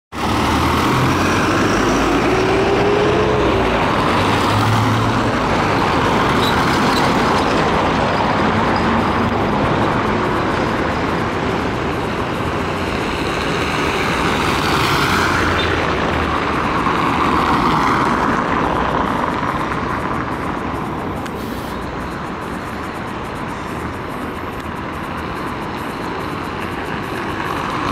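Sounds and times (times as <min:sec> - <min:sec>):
bus diesel engine running: 0:00.1 - 0:27.9.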